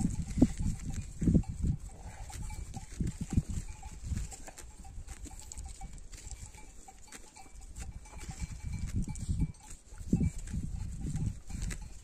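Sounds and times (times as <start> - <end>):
sheep bell: 0.0 - 12.0.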